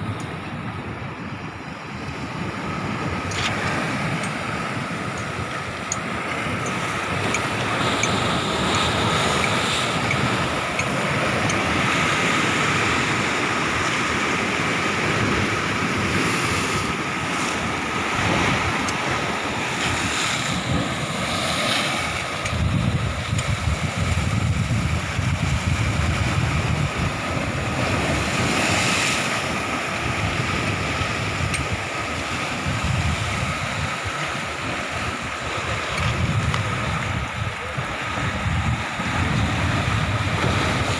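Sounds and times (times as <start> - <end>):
sea surf washing: 0.0 - 40.9
wind buffeting microphone: 0.0 - 40.9.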